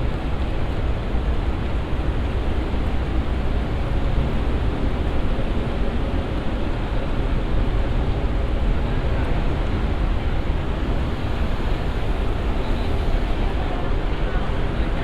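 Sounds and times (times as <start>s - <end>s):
city traffic rumble and hiss: 0.0s - 15.0s.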